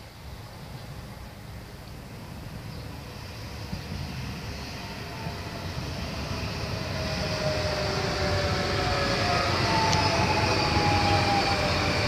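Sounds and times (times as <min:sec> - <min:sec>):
electric train whine: 0:00.0 - 0:12.0
train rumble: 0:00.0 - 0:12.0.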